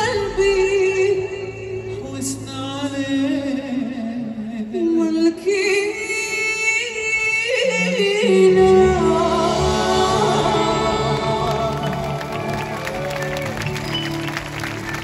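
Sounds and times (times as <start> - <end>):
woman singing with vibrato: 0.0 - 12.8.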